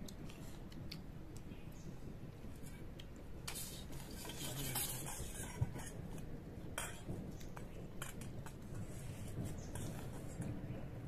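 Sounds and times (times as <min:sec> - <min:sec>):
people eating with hands: 0:00.0 - 0:11.0.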